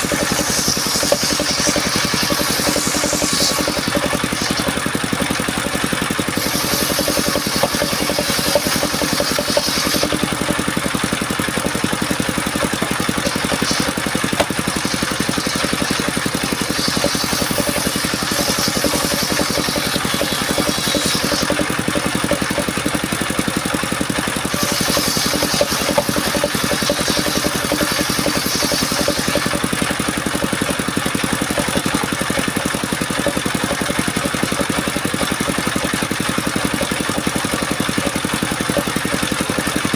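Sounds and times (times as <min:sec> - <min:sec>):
saw blade cutting wood: 0:00.0 - 0:39.9
sawmill engine running: 0:00.0 - 0:39.9.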